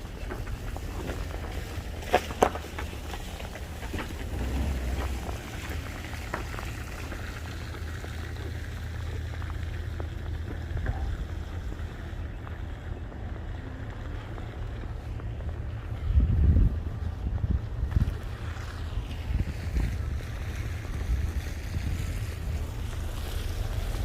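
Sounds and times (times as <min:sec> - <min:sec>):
faint outdoor ambience: 0:00.0 - 0:24.0
wind buffeting microphone: 0:00.0 - 0:24.0.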